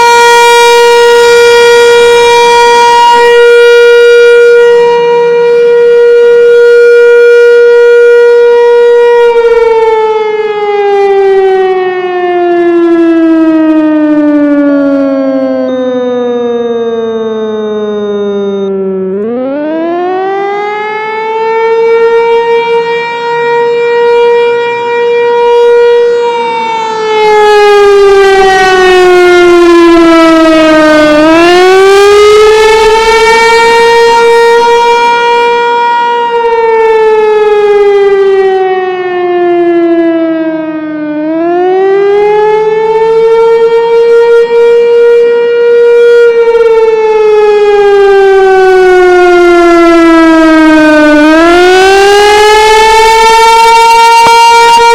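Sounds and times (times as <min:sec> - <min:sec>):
wailing warning siren: 0:00.0 - 0:54.9.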